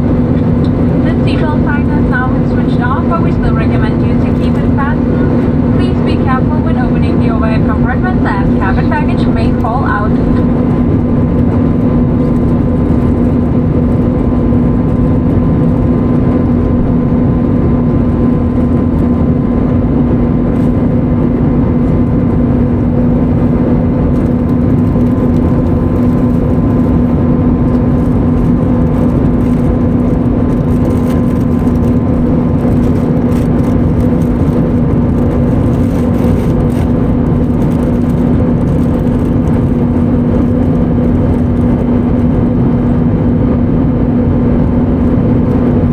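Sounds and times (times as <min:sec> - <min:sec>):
airliner cabin noise: 0:00.0 - 0:45.9.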